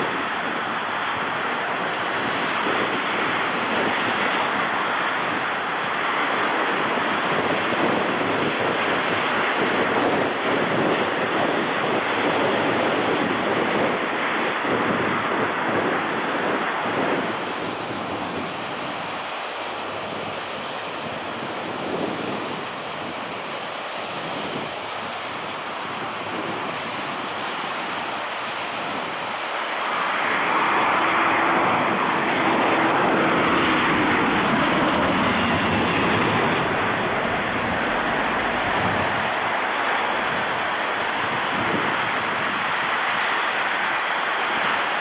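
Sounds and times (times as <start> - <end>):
jet airliner engine rushing: 0.0 - 45.0
wind noise on microphone: 0.0 - 45.0.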